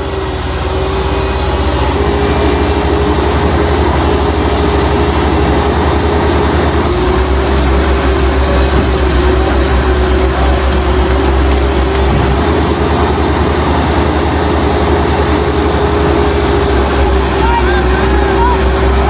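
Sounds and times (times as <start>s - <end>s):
heavy vehicle engine rumbling: 0.0s - 19.0s
wavering drone: 0.0s - 19.0s.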